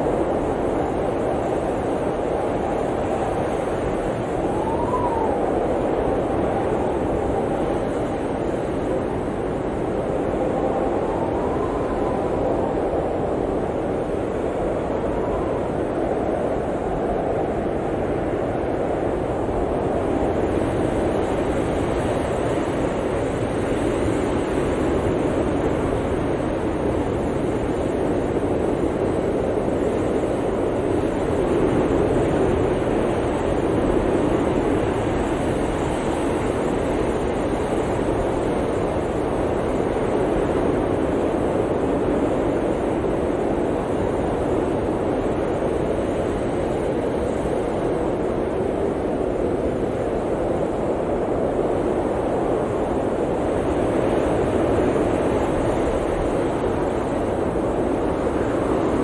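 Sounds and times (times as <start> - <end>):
blizzard wind blowing: 0.0 - 59.0.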